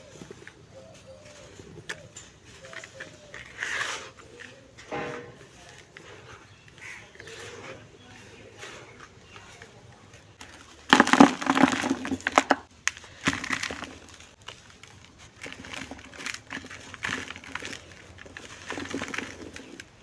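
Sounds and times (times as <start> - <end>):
dry clumps crushed crackling: 0.0 - 20.0.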